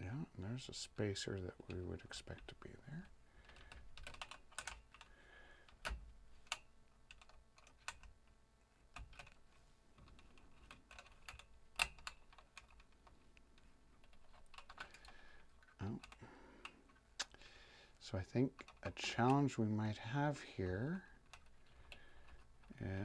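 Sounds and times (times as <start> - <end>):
small clicks and taps of parts: 1.4 - 17.4, 18.5 - 19.5, 21.1 - 23.0.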